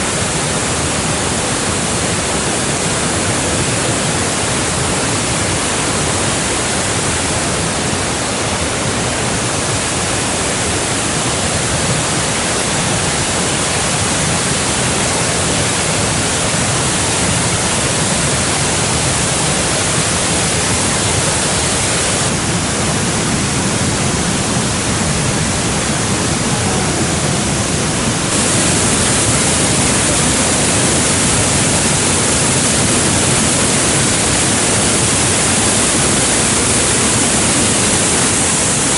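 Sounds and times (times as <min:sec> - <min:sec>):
mountain stream and waterfall rushing: 0:00.0 - 0:38.9.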